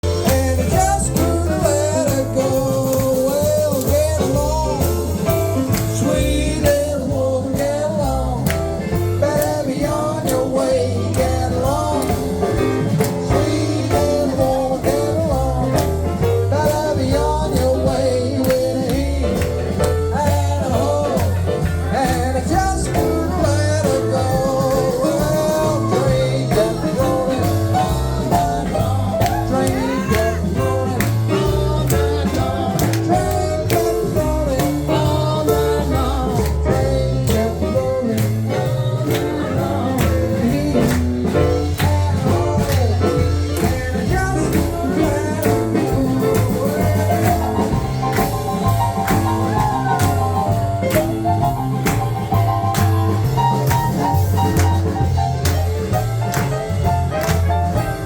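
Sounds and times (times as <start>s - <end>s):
drums beating: 0.0s - 58.0s
live rock and roll band: 0.0s - 58.0s
walking bass line: 0.0s - 58.0s.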